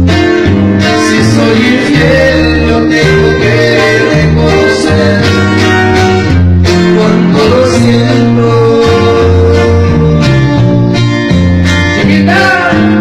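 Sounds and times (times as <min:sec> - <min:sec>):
acoustic guitars: 0:00.0 - 0:13.0
low bass notes: 0:00.0 - 0:13.0
man singing: 0:00.8 - 0:06.0, 0:06.6 - 0:11.3, 0:11.9 - 0:13.0.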